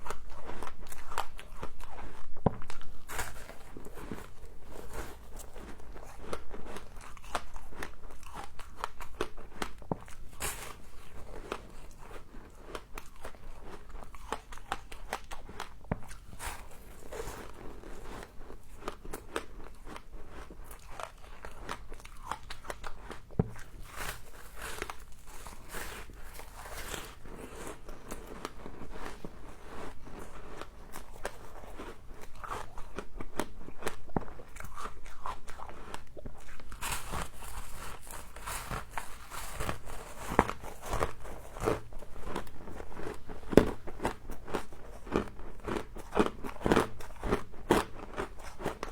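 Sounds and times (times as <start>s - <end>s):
frost being crunched and chewed: 0.0s - 48.9s.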